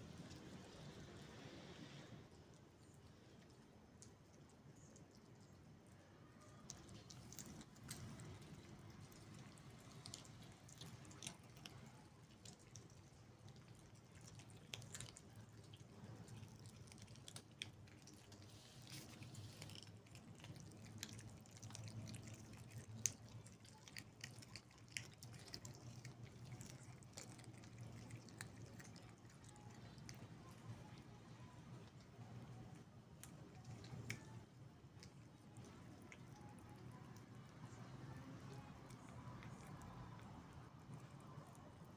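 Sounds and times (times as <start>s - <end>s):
cats chewing meat: 0.0s - 41.9s.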